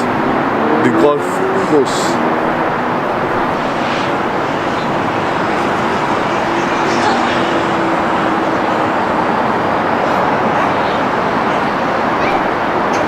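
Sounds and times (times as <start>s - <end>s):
city traffic hum: 0.0s - 13.0s.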